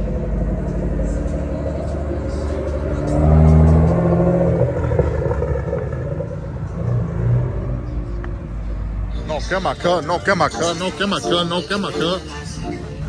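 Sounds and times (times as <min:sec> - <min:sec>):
engine revving: 0:00.0 - 0:13.0
engines idling: 0:00.0 - 0:13.0.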